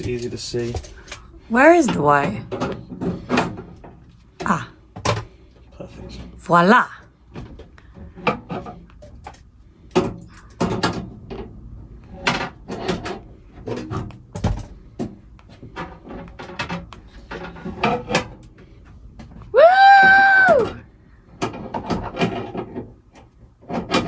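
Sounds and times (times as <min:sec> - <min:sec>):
objects knocking and clattering: 0:00.0 - 0:06.4, 0:07.1 - 0:24.0.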